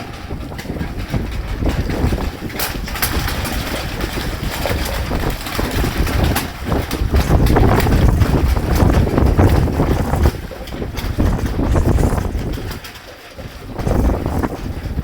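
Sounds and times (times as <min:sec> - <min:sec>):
wind gusting over microphone: 0:00.0 - 0:15.0.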